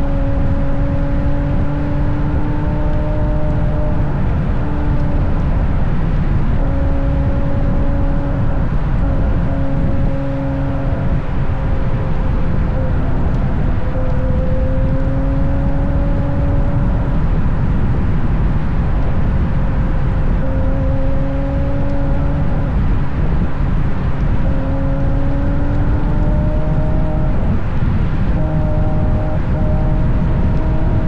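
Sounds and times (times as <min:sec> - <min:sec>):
car exhaust hum: 0:00.0 - 0:31.0
wind and tyre rumble: 0:00.0 - 0:31.0.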